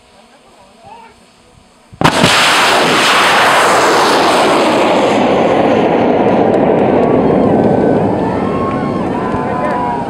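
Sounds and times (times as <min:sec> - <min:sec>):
rocket exhaust roar: 0:00.0 - 0:10.0.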